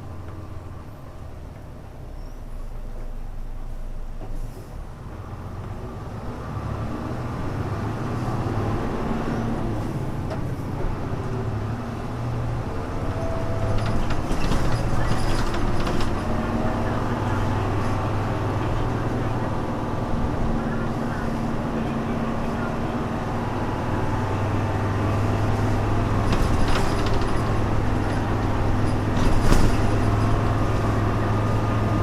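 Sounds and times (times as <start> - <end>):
bus engine accelerating: 0.0 - 32.0.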